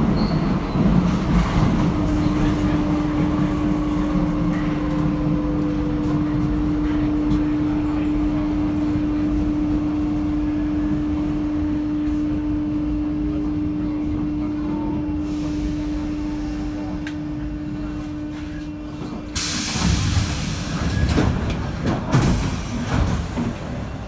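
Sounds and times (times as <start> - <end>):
train low rumble: 0.0 - 24.0.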